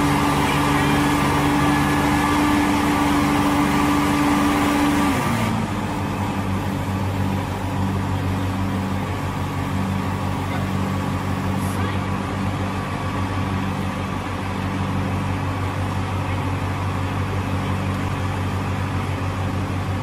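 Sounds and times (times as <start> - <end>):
paver engine running: 0.0 - 20.0.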